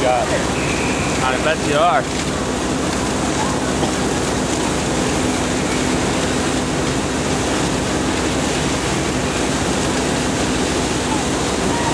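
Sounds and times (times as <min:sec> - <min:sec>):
fire engine pumps humming: 0:00.0 - 0:11.9
water rushing: 0:00.0 - 0:11.9.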